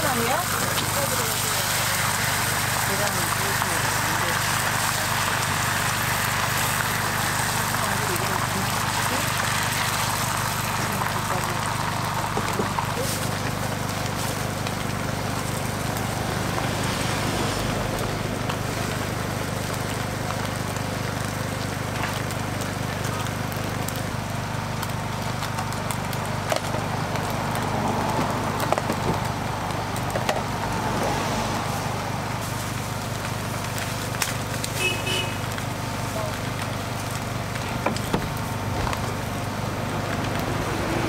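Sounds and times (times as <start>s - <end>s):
egg sizzling on griddle: 0.0s - 41.0s.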